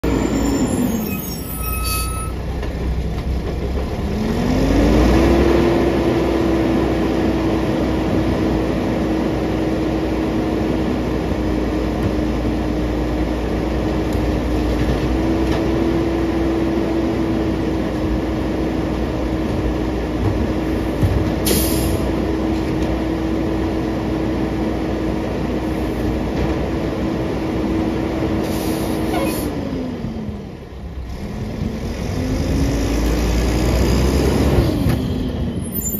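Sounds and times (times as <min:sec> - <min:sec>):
diesel engine revving: 0:02.5 - 0:35.9.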